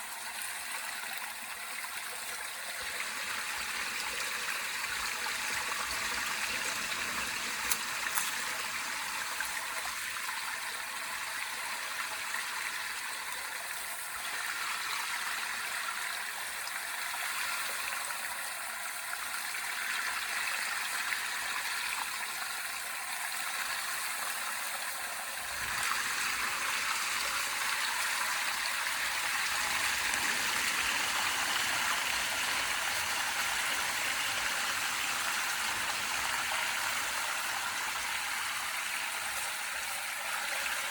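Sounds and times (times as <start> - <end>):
water rushing through a drain: 0.0 - 40.9.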